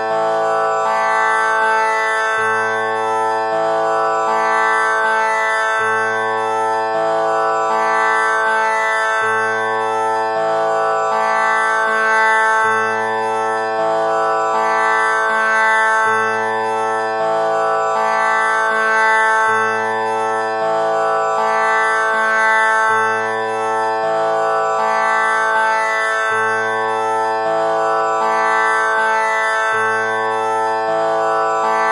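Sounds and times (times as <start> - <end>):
buzzing drone: 0.0 - 31.9.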